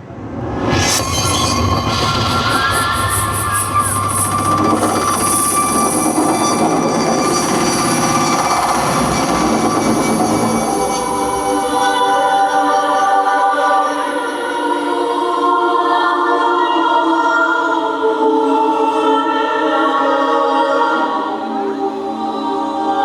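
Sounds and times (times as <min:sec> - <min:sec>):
choir-like voices holding chords: 0:02.7 - 0:23.0.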